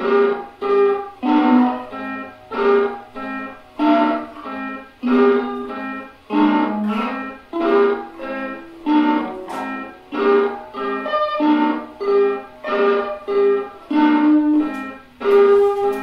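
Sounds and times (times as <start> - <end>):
plucked guitar chords: 0.0 - 16.0.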